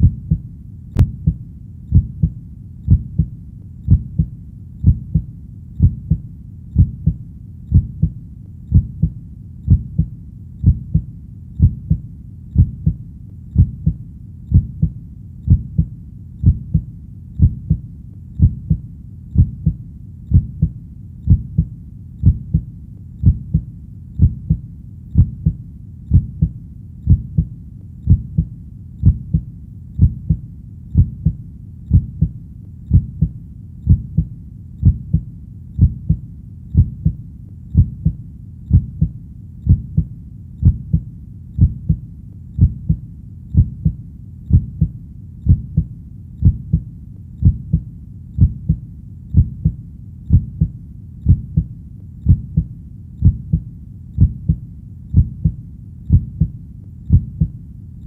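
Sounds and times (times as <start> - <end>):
heartbeat thumps: 0.0 - 57.6
low background rumble: 0.0 - 58.0.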